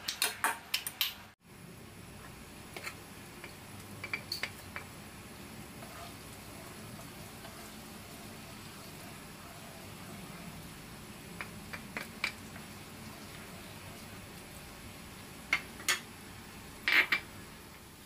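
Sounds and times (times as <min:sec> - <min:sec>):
garlic sizzling in oil: 0:01.9 - 0:18.0.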